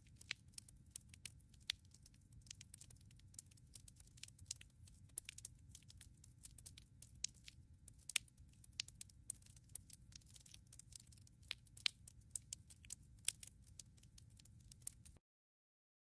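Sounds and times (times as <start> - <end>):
firewood crackling and popping: 0.0 - 15.2.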